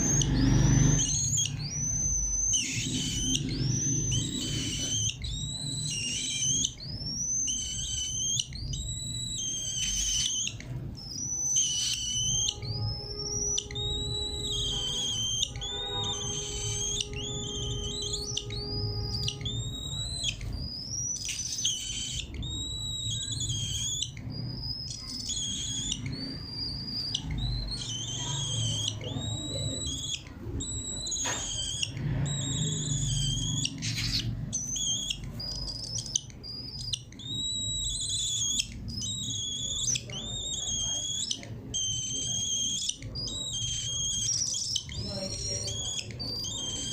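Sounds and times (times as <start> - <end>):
low steady hum: 0.0 - 40.4
cockatiel whistled chirps: 0.0 - 46.9.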